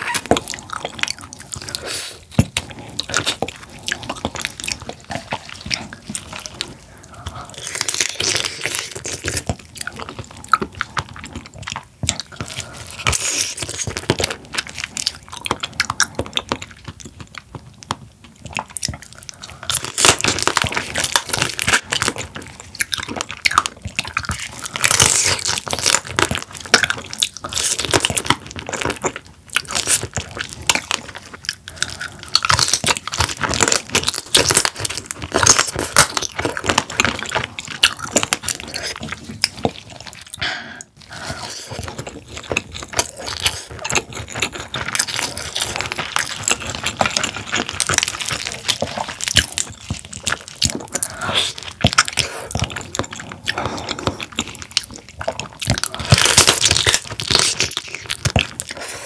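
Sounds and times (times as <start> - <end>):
crunching crab shell: 0.0 - 59.0
wet chewing: 0.0 - 59.0.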